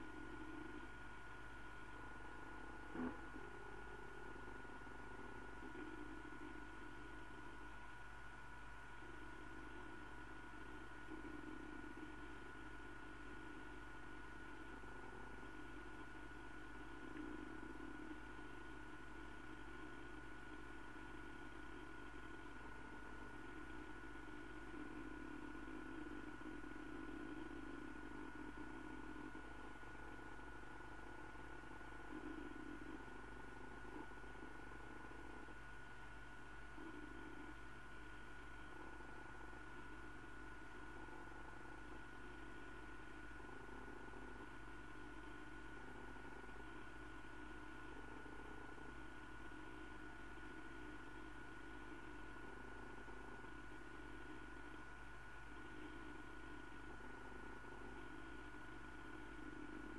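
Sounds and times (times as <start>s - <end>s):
constant high-pitched tone: 0.0s - 59.9s
steady hum and hiss: 0.0s - 59.9s
thin whine: 0.0s - 59.9s.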